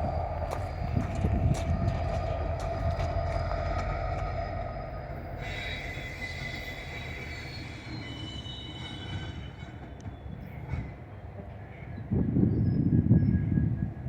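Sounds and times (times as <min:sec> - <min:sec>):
freight train rumbling: 0:00.0 - 0:14.0
steel wheels squealing on rail: 0:00.0 - 0:14.0.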